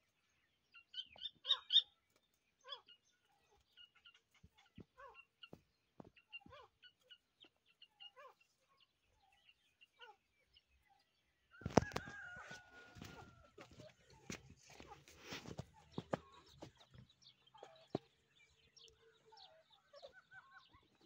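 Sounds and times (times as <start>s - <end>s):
partridge chicks peeping: 0.1s - 21.0s.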